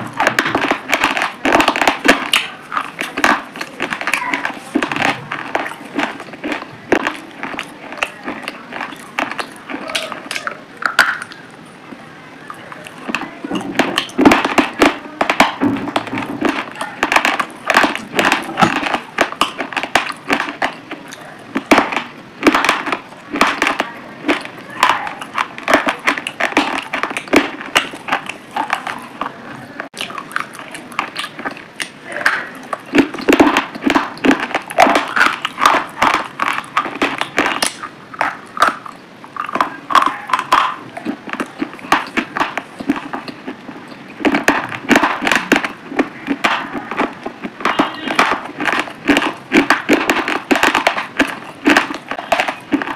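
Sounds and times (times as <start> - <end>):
person chewing crunchy seeds: 0.0 - 11.8, 12.5 - 52.9.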